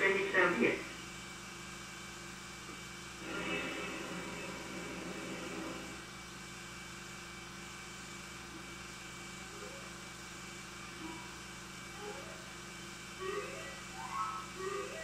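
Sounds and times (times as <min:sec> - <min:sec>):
film soundtrack hum and hiss: 0:00.0 - 0:15.0.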